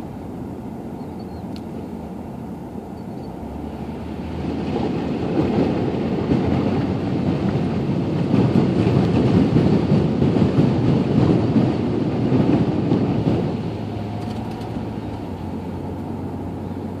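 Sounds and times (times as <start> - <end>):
tyre and engine noise: 0.0 - 17.0.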